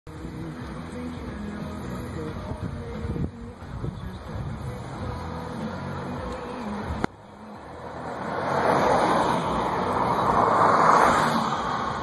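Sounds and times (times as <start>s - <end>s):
vehicle road noise: 0.1s - 12.0s.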